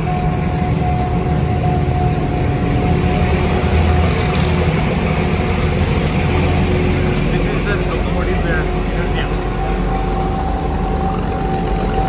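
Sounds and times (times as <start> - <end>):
thin steady whine: 0.0 - 12.0
train carriage rumbling on rails: 0.0 - 12.0.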